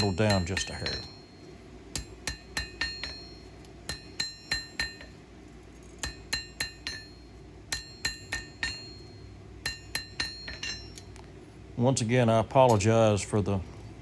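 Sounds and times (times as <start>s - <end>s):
hammer tapping steel blade: 0.0s - 11.3s.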